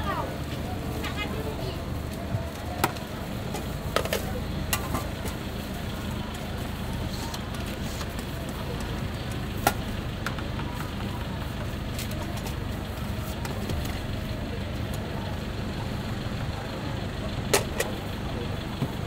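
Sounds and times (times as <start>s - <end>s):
low street rumble: 0.0s - 19.0s.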